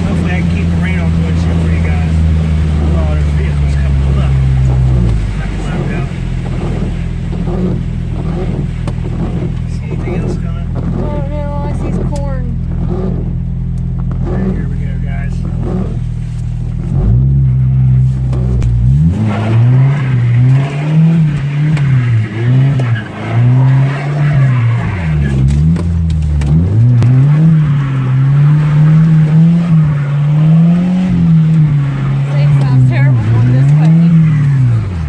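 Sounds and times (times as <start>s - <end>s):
pickup engine revving: 0.0s - 35.0s.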